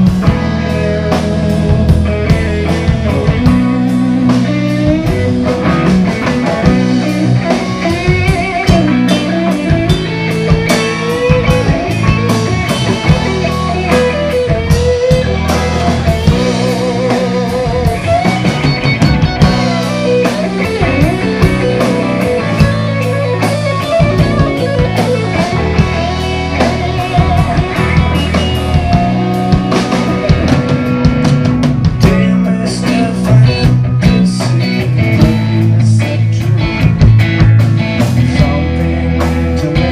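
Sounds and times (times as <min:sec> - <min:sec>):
bass guitar: 0:00.0 - 0:39.9
drum kit: 0:00.0 - 0:39.9
electric guitar melody: 0:00.0 - 0:39.9.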